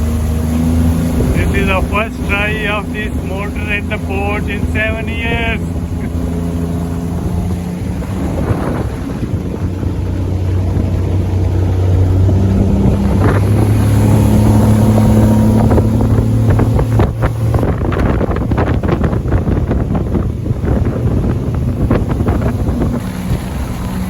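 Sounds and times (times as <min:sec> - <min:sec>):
outboard boat motor running: 0:00.0 - 0:24.0
wind gusts on microphone: 0:00.0 - 0:24.0.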